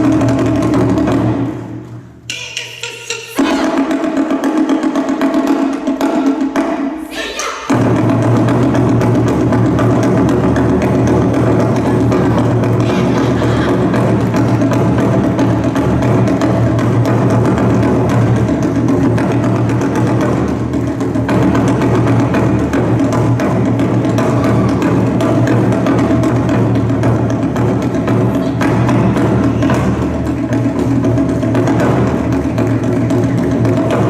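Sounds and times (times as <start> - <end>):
drums: 0.0 - 34.0.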